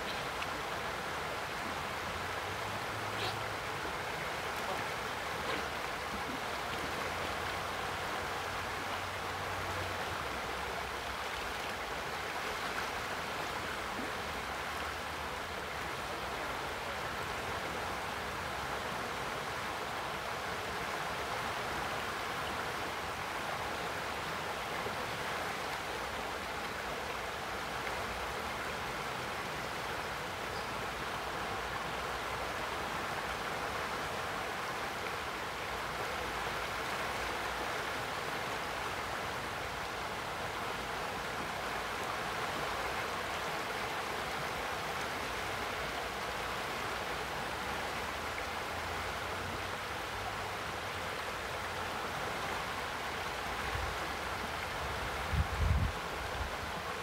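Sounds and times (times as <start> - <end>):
river rushing over riffle: 0.0 - 57.0.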